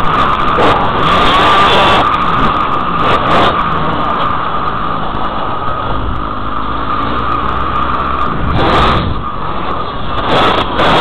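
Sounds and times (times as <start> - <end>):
dirt bike engine revving: 0.0 - 11.0
wind rushing over camera: 0.0 - 11.0.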